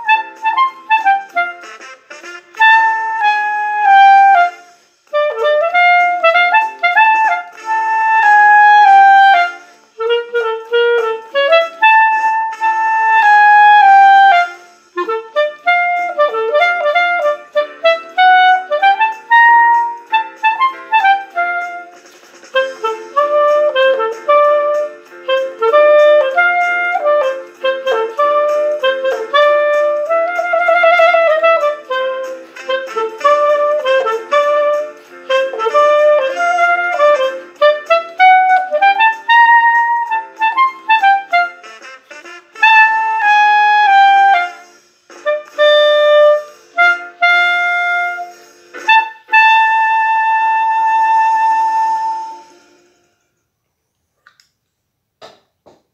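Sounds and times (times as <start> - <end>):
clarinet playing blues melody: 0.0 - 53.1.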